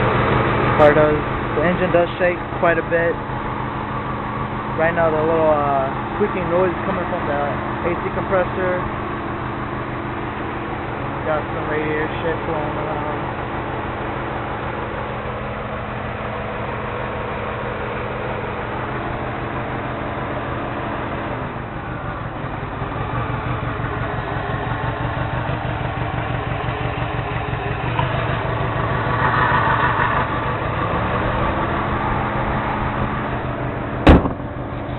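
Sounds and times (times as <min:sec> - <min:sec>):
car engine idling roughly: 0:00.0 - 0:34.9.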